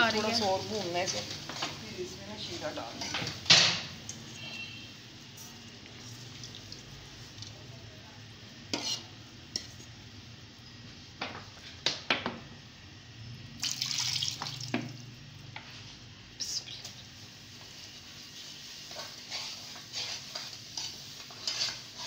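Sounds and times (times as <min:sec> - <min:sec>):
semolina sizzling in a pan: 0:00.0 - 0:22.0.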